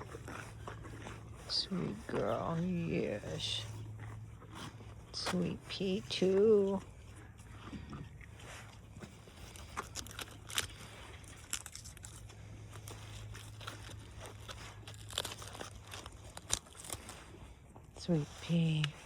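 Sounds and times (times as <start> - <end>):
donkeys munching lettuce: 0.0 - 19.0
low steady hum: 0.0 - 19.0.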